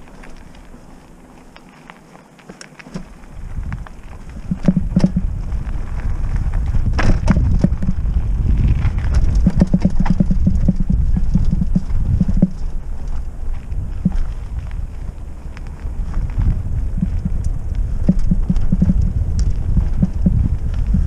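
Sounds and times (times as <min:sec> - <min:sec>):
bike rattling and knocking: 0:00.0 - 0:21.0
bike tyres rumbling on dirt: 0:00.0 - 0:21.0.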